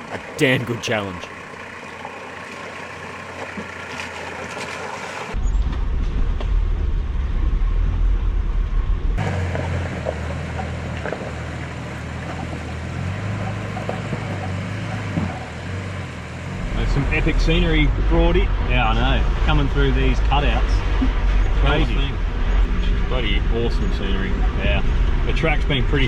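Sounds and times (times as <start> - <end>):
tyres on rough track: 0.0 - 7.8, 9.2 - 26.0
vehicle engine: 0.0 - 26.0.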